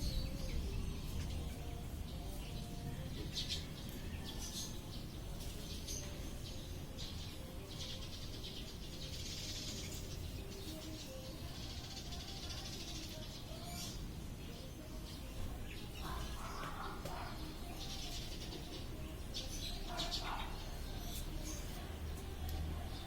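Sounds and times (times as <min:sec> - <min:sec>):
lovebirds chirping: 0:00.0 - 0:23.0.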